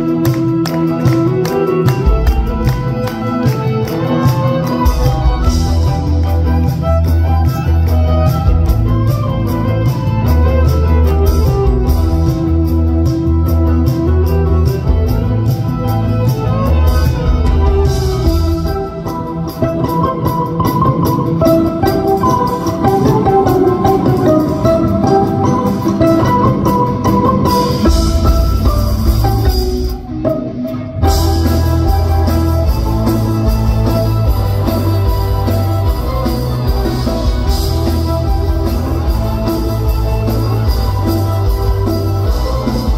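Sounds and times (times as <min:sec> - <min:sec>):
drum kit: 0:00.0 - 0:42.9
electric guitar: 0:00.0 - 0:42.9
electric violin lead: 0:00.0 - 0:42.9.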